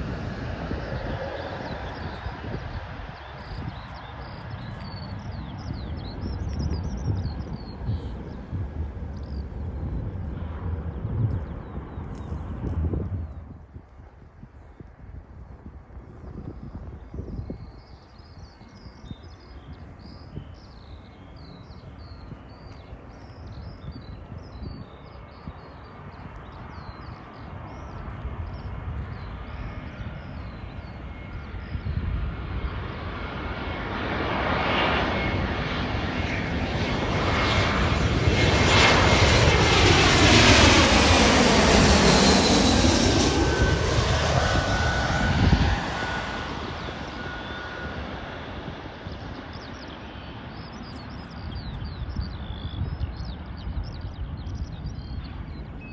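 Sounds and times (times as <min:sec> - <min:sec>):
jet airliner passing: 0:00.0 - 0:55.9.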